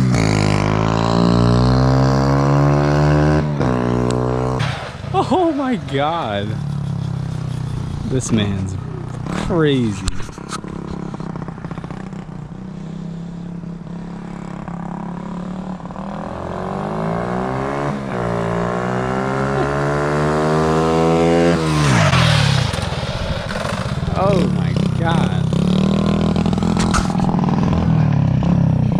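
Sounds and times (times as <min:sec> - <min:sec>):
atv engine idling and revving: 0:00.0 - 0:28.9.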